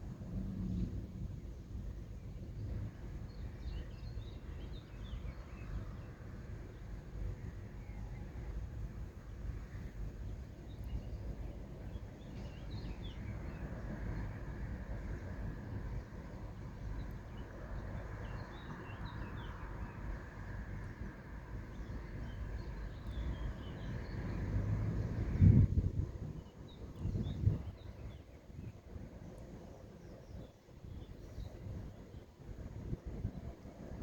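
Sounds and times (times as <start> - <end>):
low outdoor rumble: 0.0 - 29.8.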